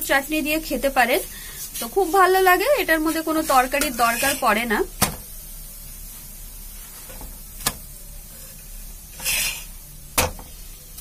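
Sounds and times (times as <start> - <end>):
flatbread sizzling on a pan: 0.0 - 11.0
hiss of bread pressed: 0.6 - 11.0.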